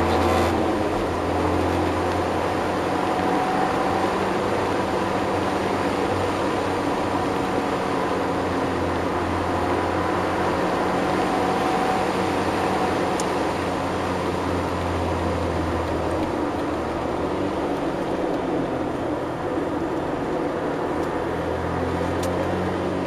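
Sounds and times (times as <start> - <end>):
car engine running: 0.0 - 23.0
wind and road noise: 0.0 - 23.0.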